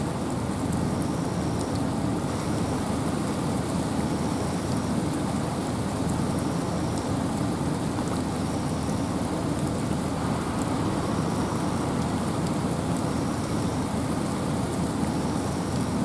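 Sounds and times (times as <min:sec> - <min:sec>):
rain and wind in forest: 0:00.0 - 0:16.0
individual raindrop ticks: 0:00.6 - 0:03.7, 0:04.6 - 0:16.0.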